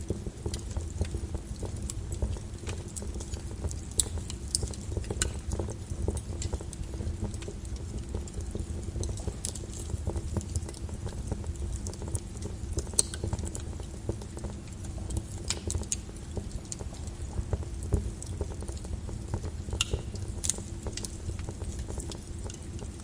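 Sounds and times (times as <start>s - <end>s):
lava crackling and popping: 0.0s - 23.0s.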